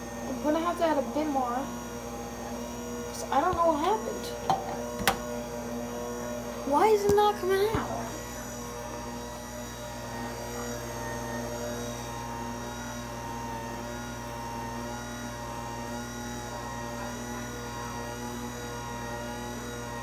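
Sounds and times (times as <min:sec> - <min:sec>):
small electric motor humming: 0:00.0 - 0:20.0.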